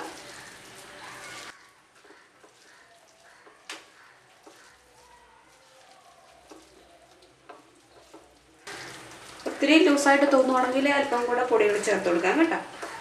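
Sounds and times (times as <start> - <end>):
hand mixing wet food: 0.0 - 13.0.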